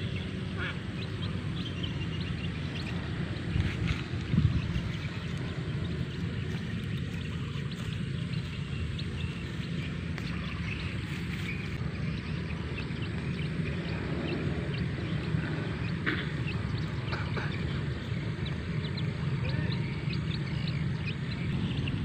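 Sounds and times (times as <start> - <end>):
wind buffeting microphone: 0.9 - 22.0.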